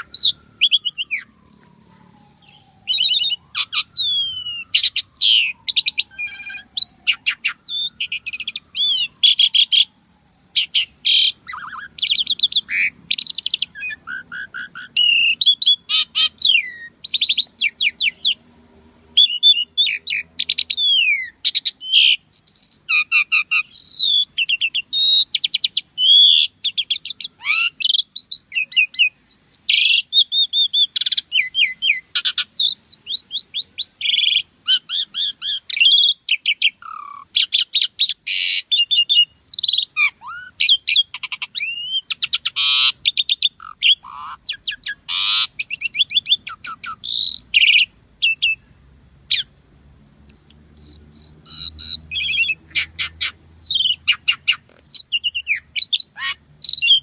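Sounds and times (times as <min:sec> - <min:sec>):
starling singing: 0:00.0 - 0:48.7, 0:49.3 - 0:49.6, 0:50.3 - 0:57.0.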